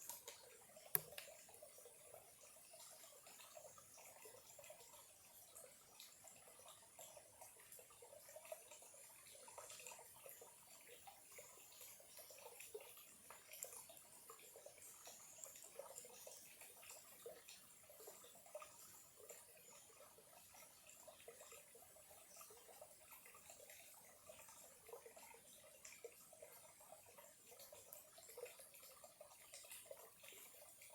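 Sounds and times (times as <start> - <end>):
stream trickling: 0.0 - 30.9.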